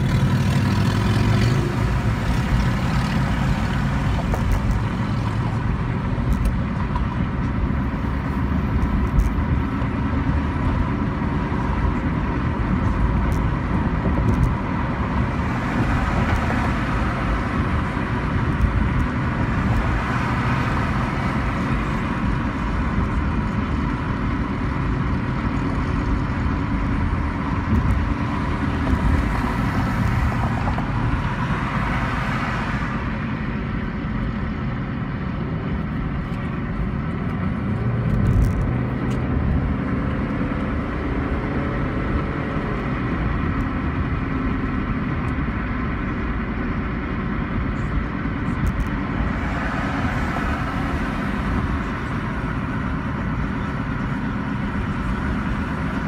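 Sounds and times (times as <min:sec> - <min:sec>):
car engine cruising: 0:00.0 - 0:56.0
tyres on pavement: 0:00.0 - 0:56.0.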